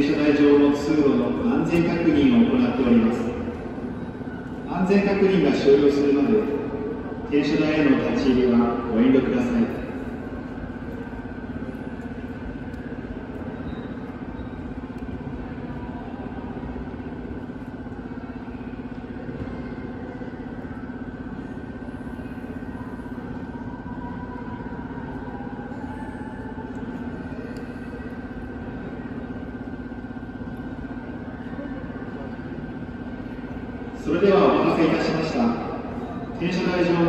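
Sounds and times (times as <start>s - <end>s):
pulsing machine hum: 0.0s - 37.0s.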